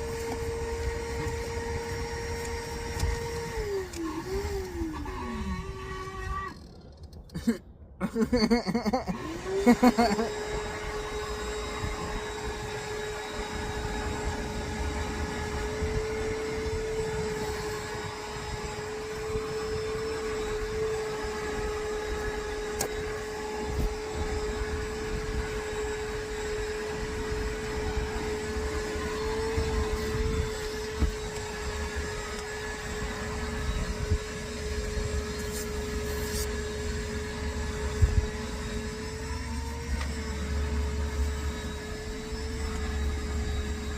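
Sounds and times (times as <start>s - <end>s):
vacuum cleaner running: 0.0s - 6.8s, 8.1s - 43.9s.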